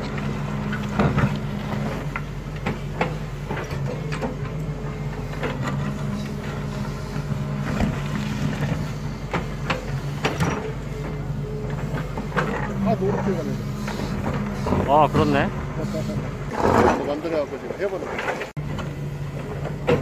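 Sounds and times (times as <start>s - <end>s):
excavator diesel engine under load: 0.0s - 20.0s.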